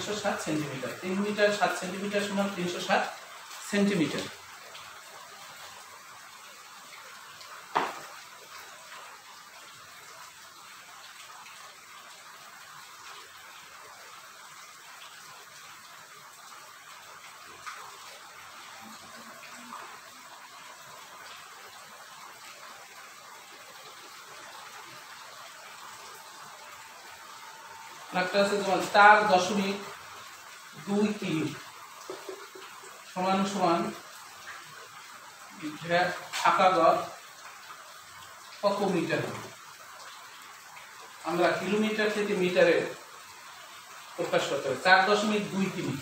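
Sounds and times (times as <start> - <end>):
room noise hiss: 0.0 - 46.0.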